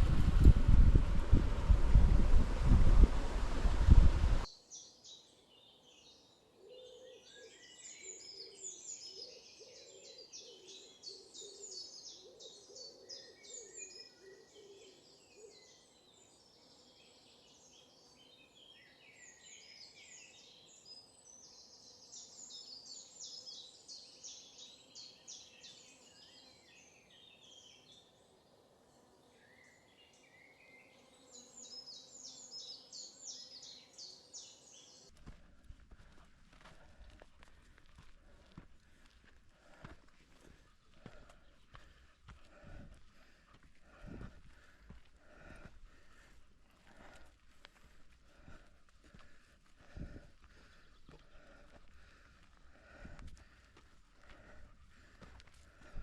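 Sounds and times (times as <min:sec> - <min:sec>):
small birds chirping: 0:04.4 - 0:56.0.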